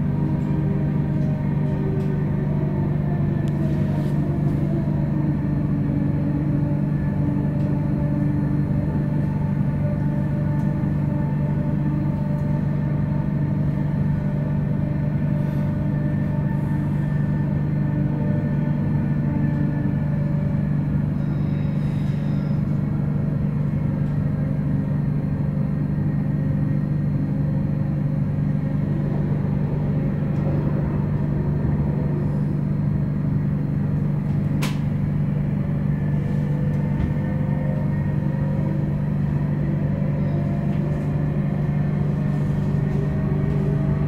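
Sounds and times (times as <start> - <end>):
faint high train tones: 0.0 - 44.0
train cabin rumble: 0.0 - 44.0.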